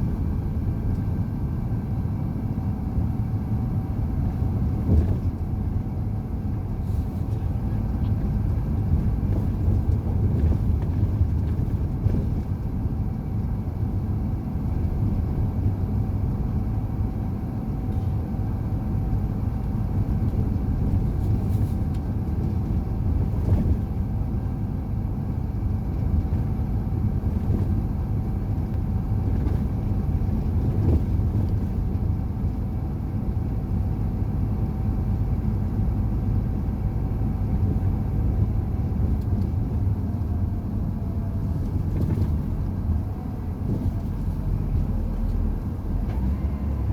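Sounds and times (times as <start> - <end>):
truck engine rumble: 0.0 - 46.9.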